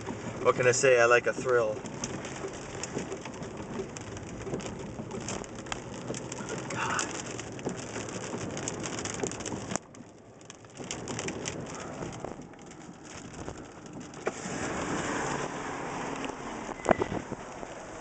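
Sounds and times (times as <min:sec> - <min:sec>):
heavy rain with close drops: 0:00.0 - 0:18.0.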